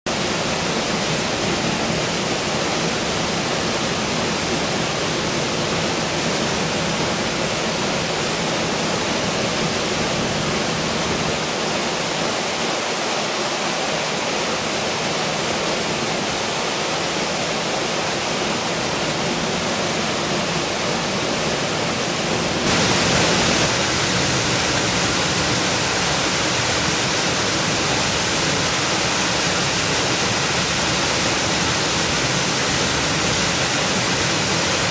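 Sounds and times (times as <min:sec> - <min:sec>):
river water rushing over rocks: 0:00.1 - 0:34.9.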